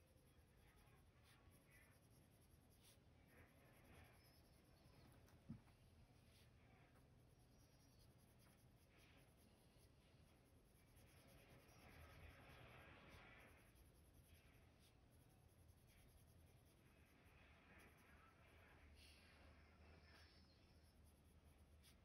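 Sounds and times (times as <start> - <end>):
pencil scratching on paper: 0.0 - 18.5.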